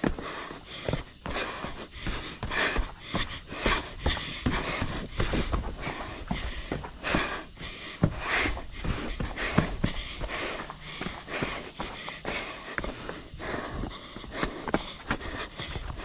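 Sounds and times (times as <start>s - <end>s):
runner breathing hard: 0.0s - 16.0s
running footsteps on rocky trail: 0.0s - 16.0s.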